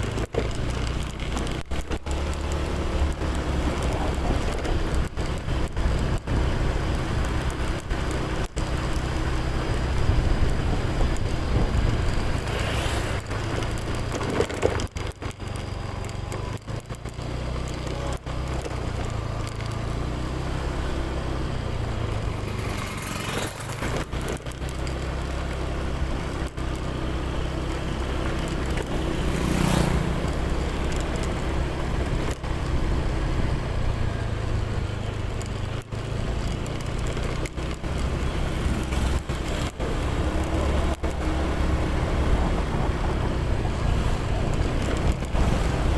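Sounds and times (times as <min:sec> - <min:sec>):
vehicle engine running: 0:00.0 - 0:45.9
vehicles passing: 0:00.0 - 0:45.9.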